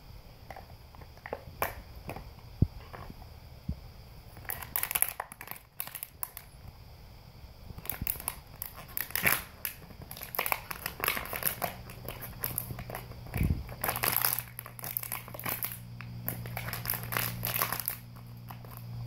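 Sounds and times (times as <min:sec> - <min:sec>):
dog chewing plastic bottle: 0:00.5 - 0:03.2, 0:04.4 - 0:06.5, 0:07.8 - 0:19.0.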